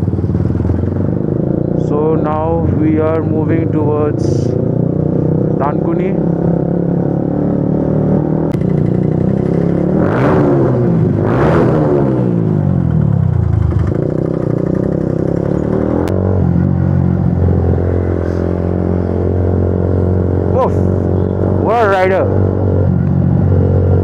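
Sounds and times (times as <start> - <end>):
motorcycle engine drone: 0.0 - 24.0
vehicles rushing past: 0.0 - 24.0.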